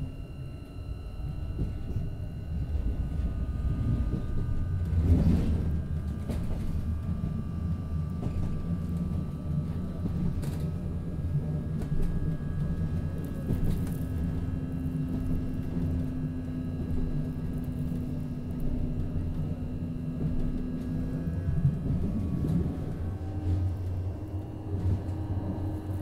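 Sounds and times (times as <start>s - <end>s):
tram low rumble: 0.0s - 26.0s.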